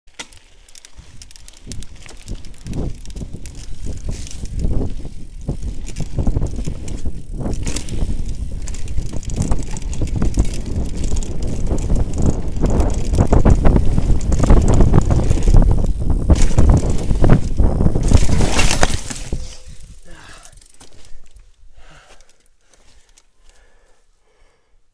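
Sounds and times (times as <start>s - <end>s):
bike rattling over bumps: 0.1s - 23.2s
bike tyres rumbling on dirt: 0.1s - 23.8s.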